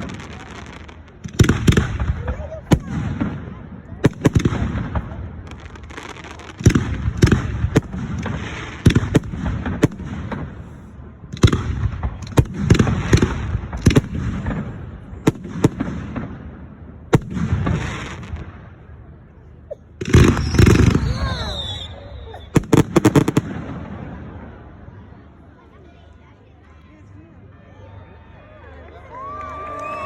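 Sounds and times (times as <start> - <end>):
fireworks bangs and crackle: 0.0 - 19.1, 20.0 - 25.3.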